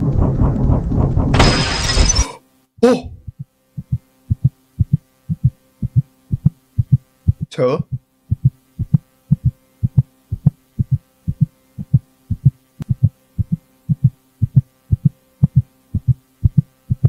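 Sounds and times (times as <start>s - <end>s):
low heartbeat-like thumping: 0.0s - 1.4s, 3.1s - 17.0s
steady low hum: 0.0s - 17.0s.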